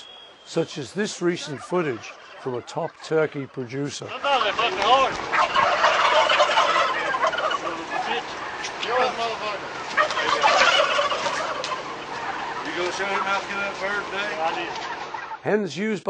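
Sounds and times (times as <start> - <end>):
turkeys calling: 0.0 - 15.6.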